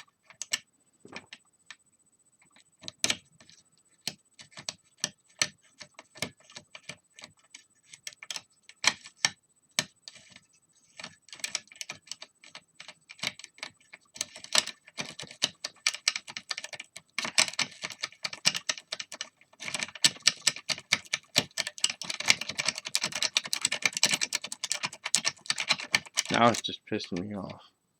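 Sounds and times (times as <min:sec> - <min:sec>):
lock pick clicking and scraping: 0:00.2 - 0:00.6, 0:02.4 - 0:26.6.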